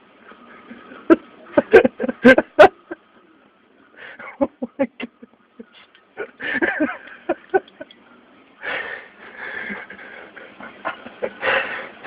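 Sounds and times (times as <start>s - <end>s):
people laughing breathlessly: 0.7s - 3.1s, 4.0s - 8.0s, 8.6s - 12.0s.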